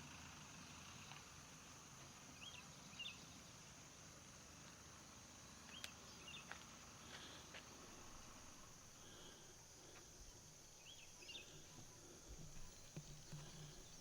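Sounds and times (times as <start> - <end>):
high insect drone: 0.1 - 14.0.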